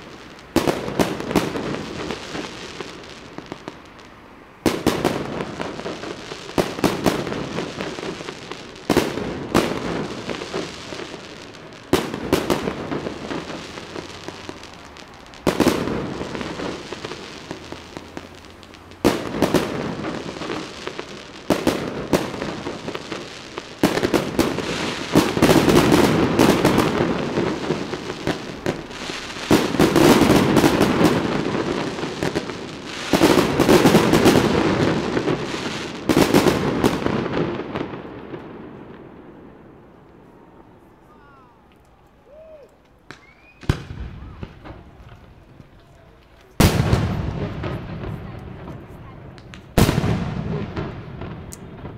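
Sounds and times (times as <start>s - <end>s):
fireworks bursting with bangs: 0.0s - 51.9s
fireworks crackling: 0.0s - 51.9s.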